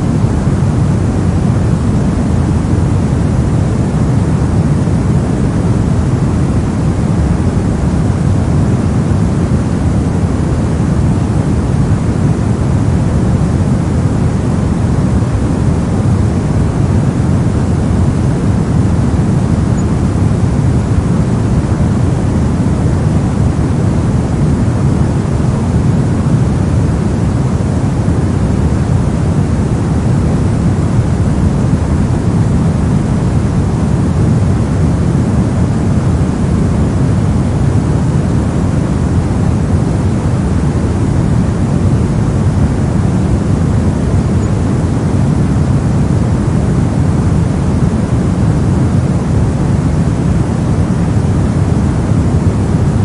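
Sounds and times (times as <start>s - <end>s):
brown noise: 0.0s - 53.0s.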